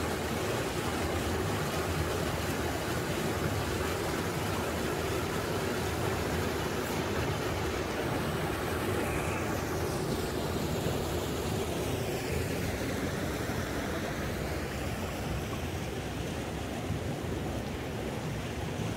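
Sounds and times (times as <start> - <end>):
mountain stream rushing over stones: 0.0 - 18.9
water pouring over rock cascade: 0.0 - 18.9.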